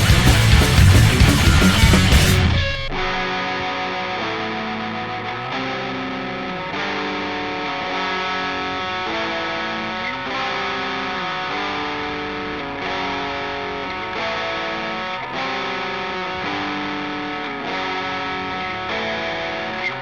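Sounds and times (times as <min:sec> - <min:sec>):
distorted electric guitar riff: 0:00.0 - 0:20.0
heavy metal music: 0:00.0 - 0:20.0.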